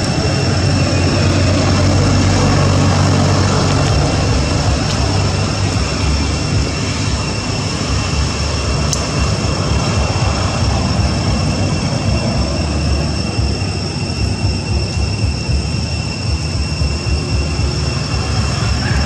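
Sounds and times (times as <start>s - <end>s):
high-pitched whine: 0.0s - 19.0s
road traffic rumble: 0.0s - 19.0s.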